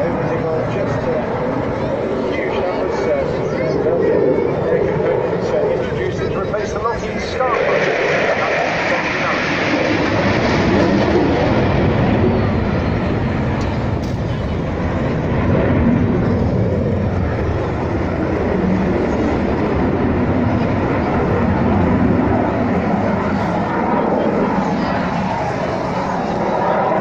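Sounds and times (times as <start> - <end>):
fighter jet engine roar: 0.0 - 27.0.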